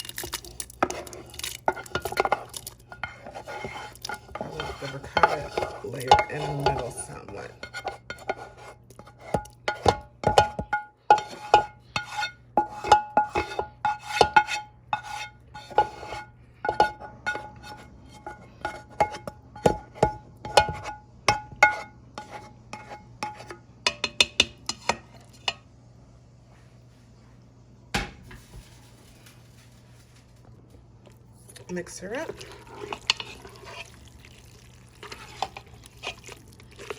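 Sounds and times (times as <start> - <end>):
utensil clanking on metal cookware: 0.0 - 25.6, 28.0 - 30.7, 31.4 - 34.1, 34.9 - 36.9.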